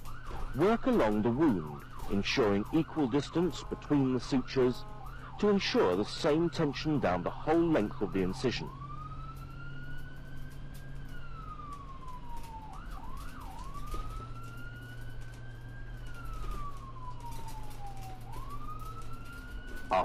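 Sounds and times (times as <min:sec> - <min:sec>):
light crackle: 0:00.0 - 0:20.0
siren wailing: 0:00.0 - 0:20.0
siren yelps: 0:00.0 - 0:20.0.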